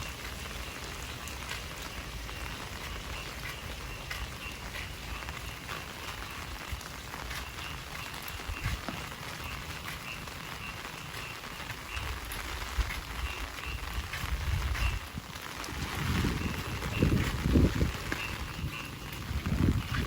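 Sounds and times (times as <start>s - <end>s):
heavy rain pattering: 0.0s - 20.0s.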